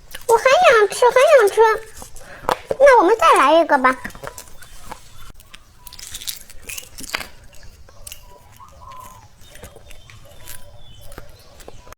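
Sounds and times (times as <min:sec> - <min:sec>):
crunching hard candy: 0:00.0 - 0:11.9.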